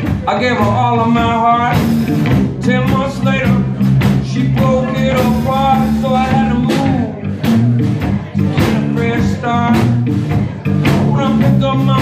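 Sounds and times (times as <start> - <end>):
bass guitar: 0.0 - 12.0
drum kit: 0.0 - 12.0.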